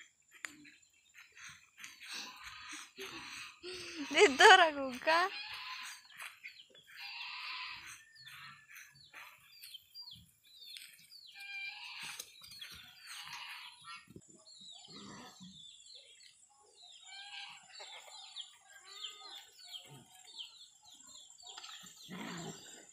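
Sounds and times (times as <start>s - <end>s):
birds chirping and calling: 0.0s - 22.9s.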